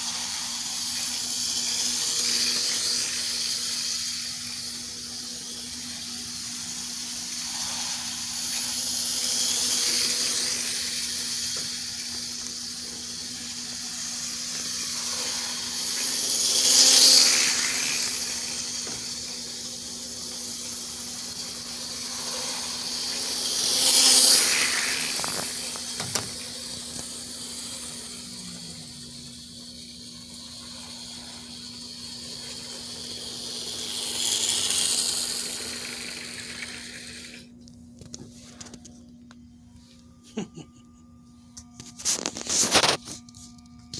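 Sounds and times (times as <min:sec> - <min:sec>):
model train running on track: 0:00.0 - 0:37.5.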